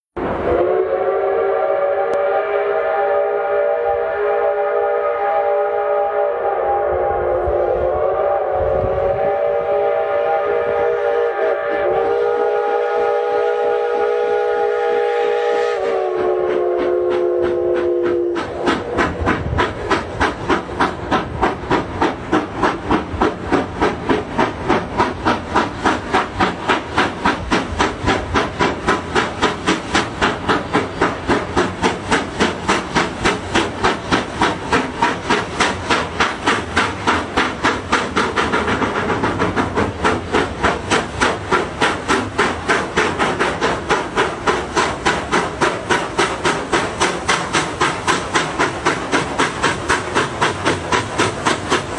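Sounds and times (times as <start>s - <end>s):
steam engine hissing puffs: 4.5s - 51.9s.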